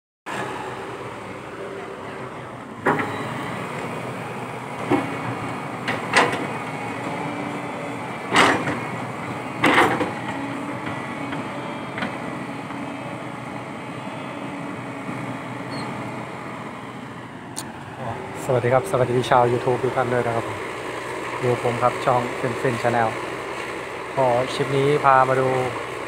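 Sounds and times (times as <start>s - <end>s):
excavator engine drone: 0.3s - 26.0s
hydraulic hum: 0.3s - 26.0s.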